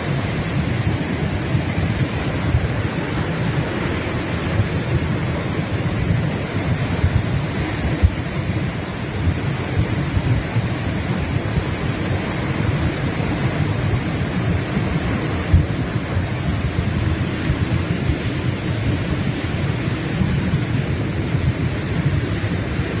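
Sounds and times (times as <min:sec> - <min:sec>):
creek rushing in spate: 0:00.0 - 0:23.0.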